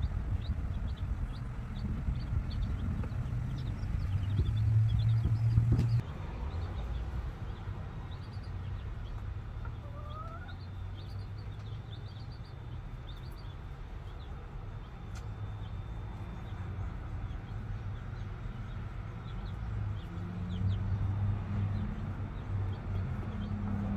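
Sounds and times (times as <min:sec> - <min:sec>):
chicks peeping: 0:00.0 - 0:23.9.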